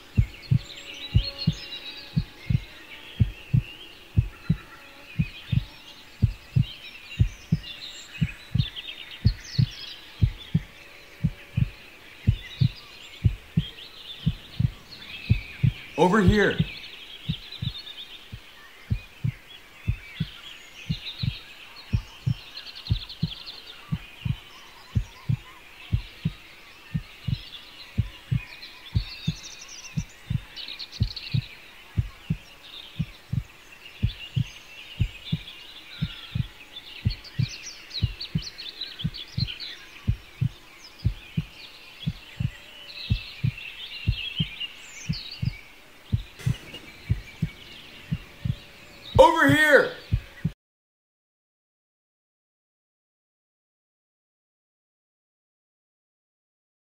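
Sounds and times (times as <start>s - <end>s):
birds chirping: 0.0s - 50.5s
heartbeat thumps: 0.1s - 29.4s, 30.0s - 49.2s, 49.8s - 50.6s.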